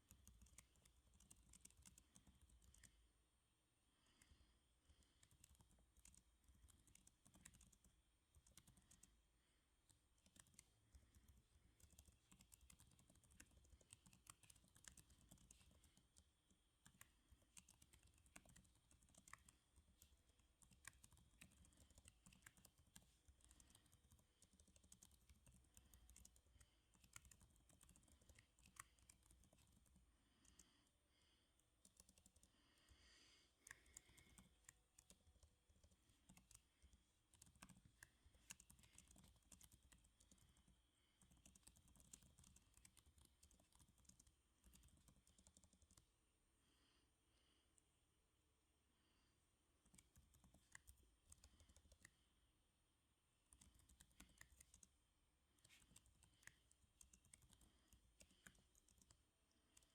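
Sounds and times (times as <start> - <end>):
typing on computer keyboard: 0.0 - 3.0, 4.2 - 9.2, 9.8 - 30.8, 31.8 - 46.1, 49.8 - 52.2, 53.5 - 55.0, 55.6 - 59.9.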